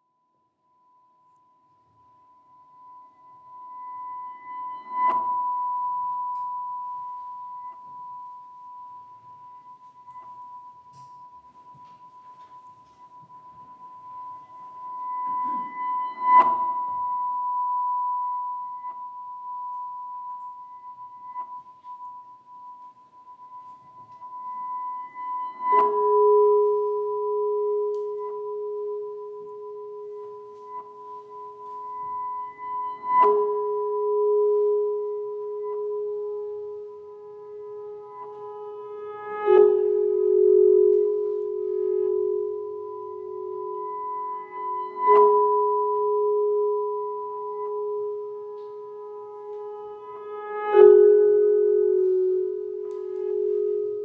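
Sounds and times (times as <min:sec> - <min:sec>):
low held tone: 0:00.0 - 0:54.0.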